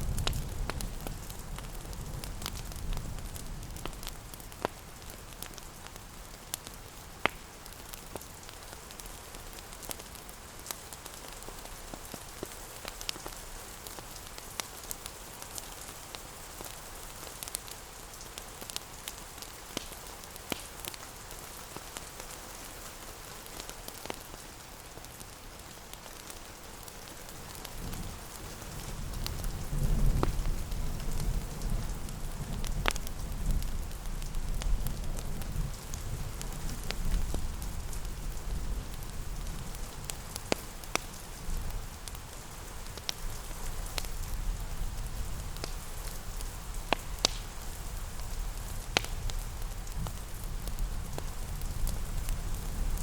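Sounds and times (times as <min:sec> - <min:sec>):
rain pattering: 0:00.0 - 0:53.0
wood fire crackling: 0:00.0 - 0:53.0.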